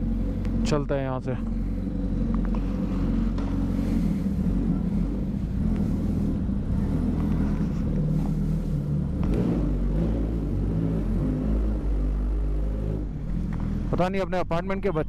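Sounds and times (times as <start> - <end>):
motorcycle exhaust at low revs: 0.0 - 15.0.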